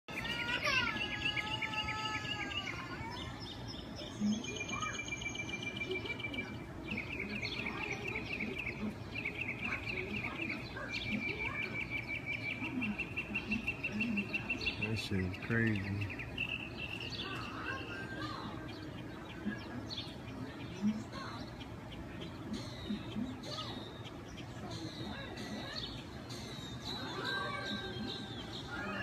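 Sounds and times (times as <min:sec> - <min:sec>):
outdoor background noise: 0:00.0 - 0:29.0
small birds trilling: 0:00.1 - 0:29.0.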